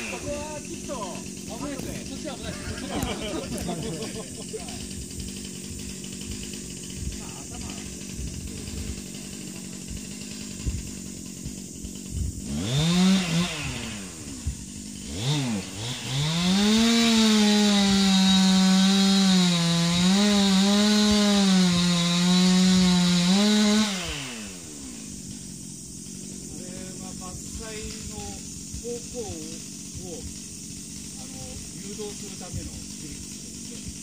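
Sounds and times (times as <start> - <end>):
chainsaw cutting into tree trunk: 0.0 - 34.0
chainsaw idling and revving: 0.0 - 34.0.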